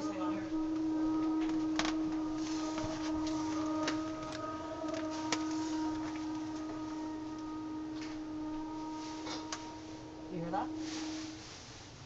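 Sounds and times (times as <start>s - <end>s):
wavering high tones: 0.0s - 11.6s
low droning hum: 0.0s - 12.0s.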